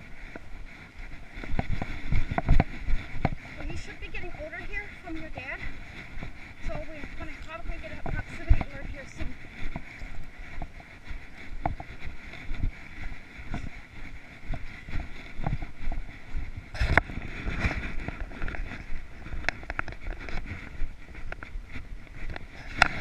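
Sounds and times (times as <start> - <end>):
footsteps in dry grass: 0.0 - 23.0
wind on microphone: 0.0 - 23.0.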